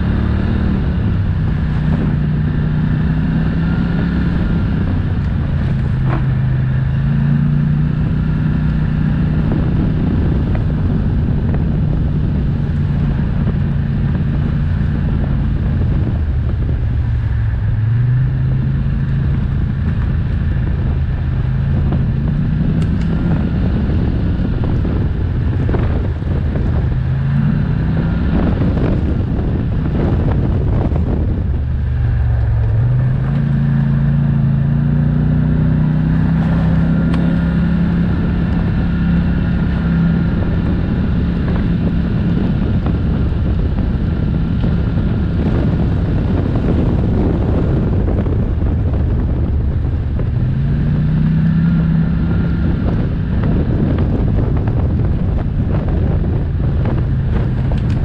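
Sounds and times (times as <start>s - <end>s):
atv engine running: 0.0s - 58.0s
wind buffeting microphone: 0.0s - 58.0s.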